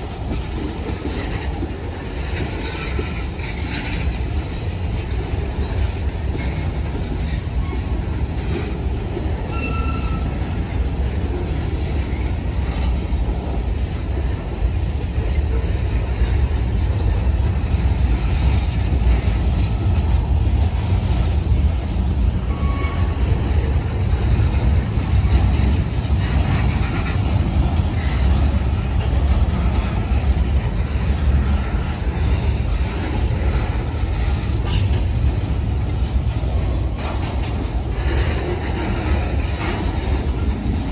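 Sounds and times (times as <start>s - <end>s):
freight train rumbling on rails: 0.0s - 40.9s.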